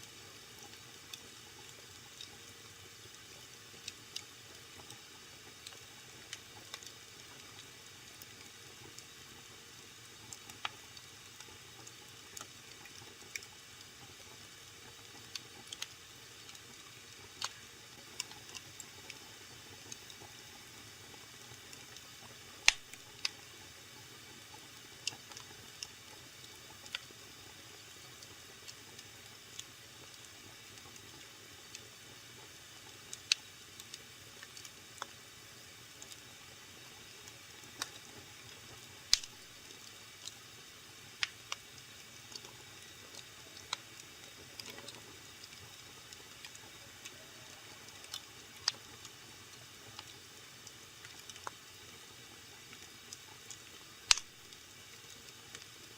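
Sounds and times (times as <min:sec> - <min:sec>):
wood fire crackling and popping: 0:00.4 - 0:55.9.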